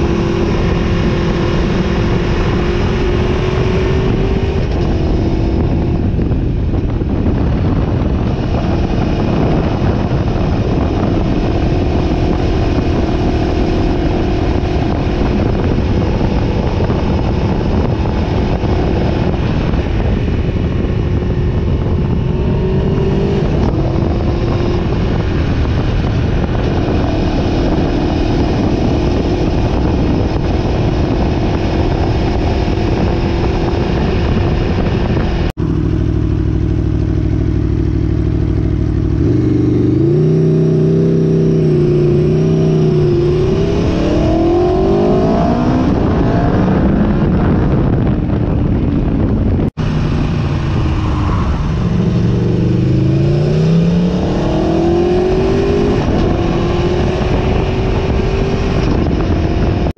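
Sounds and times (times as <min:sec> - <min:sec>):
motorcycle engine accelerating: 0:00.0 - 0:59.9
wind noise: 0:00.0 - 0:59.9.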